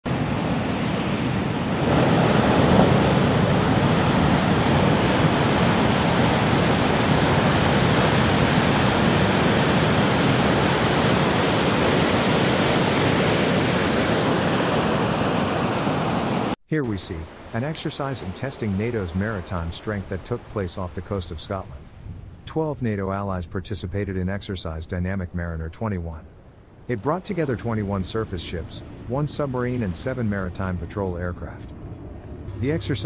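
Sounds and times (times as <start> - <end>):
sea rushing: 0.0 - 33.0
wind: 0.0 - 33.0.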